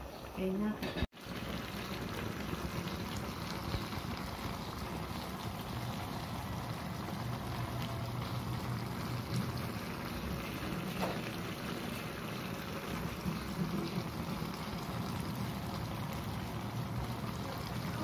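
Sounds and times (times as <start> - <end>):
stew simmering on gas burner: 0.0 - 18.0.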